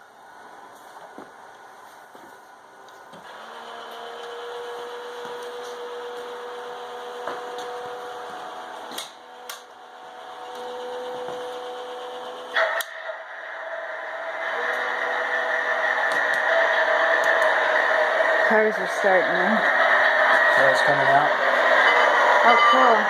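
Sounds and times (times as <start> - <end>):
electric motors humming: 3.2 - 22.9.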